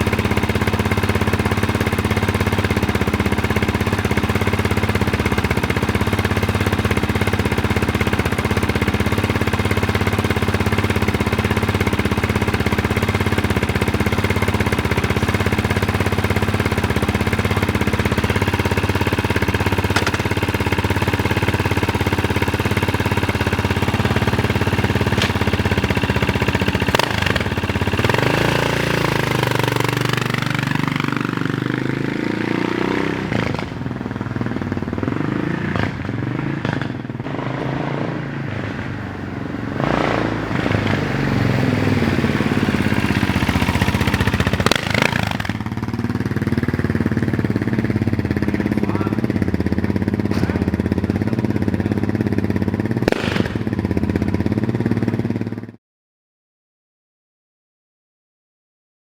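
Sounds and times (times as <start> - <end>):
motorcycle engine running: 0.0 - 55.8.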